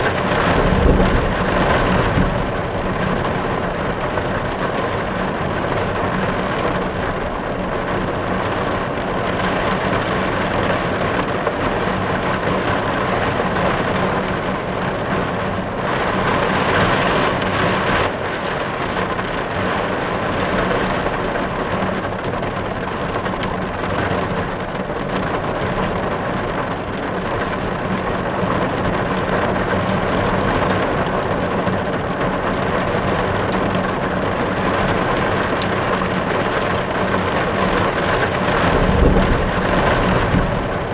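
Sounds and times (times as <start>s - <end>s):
rain falling on a car: 0.0s - 40.9s.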